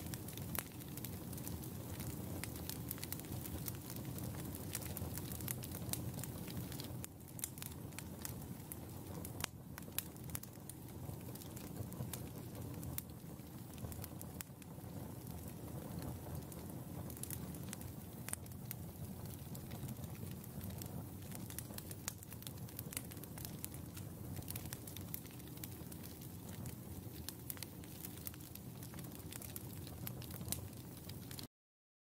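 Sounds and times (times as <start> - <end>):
campfire crackling and popping: 0.0 - 31.5.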